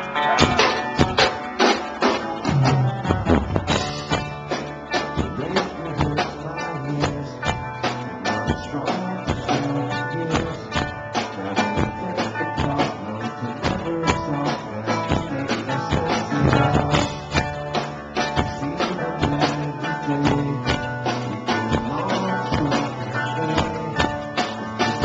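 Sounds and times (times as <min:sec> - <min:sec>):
drums striking a steady beat: 0:00.0 - 0:25.0
live rock band playing: 0:00.0 - 0:25.0.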